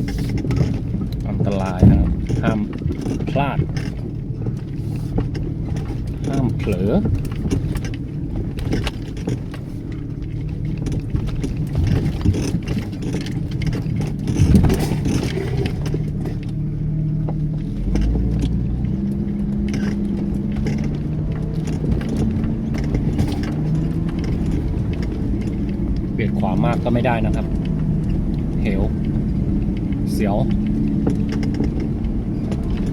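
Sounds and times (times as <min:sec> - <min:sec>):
knocks and rattles of vehicle body: 0:00.0 - 0:32.9
vehicle engine under load: 0:00.0 - 0:32.9.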